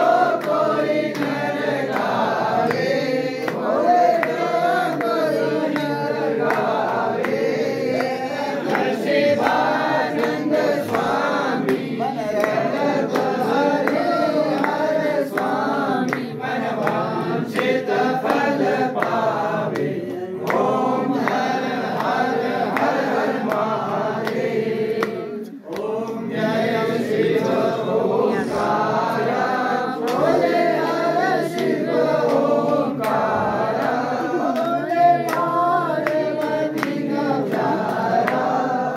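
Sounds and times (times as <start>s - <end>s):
group singing together: 0.0s - 38.9s.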